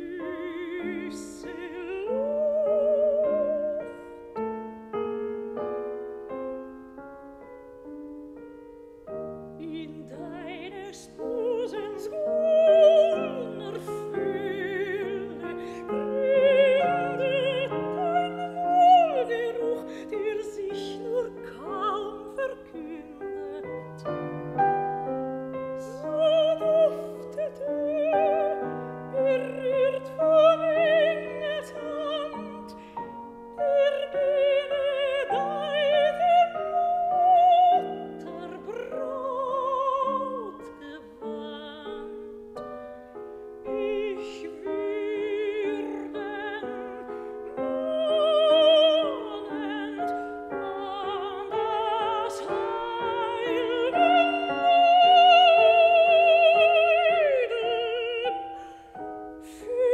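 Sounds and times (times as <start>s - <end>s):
piano accompaniment: 0.0s - 59.9s
soprano singing: 0.0s - 59.9s.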